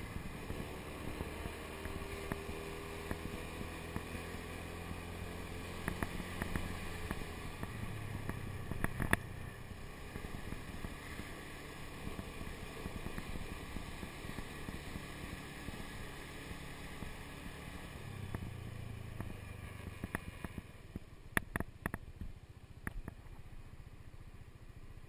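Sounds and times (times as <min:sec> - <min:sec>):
scooter engine running: 0:00.0 - 0:25.0.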